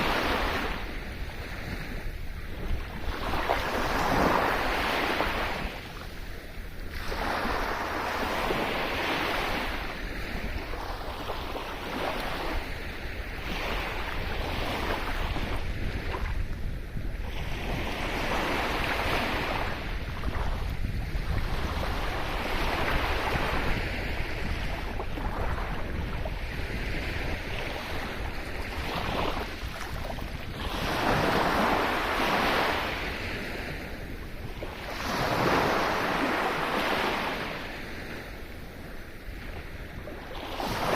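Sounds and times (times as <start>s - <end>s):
sea waves breaking: 0.0s - 40.9s
wind rumble on microphone: 0.0s - 40.9s.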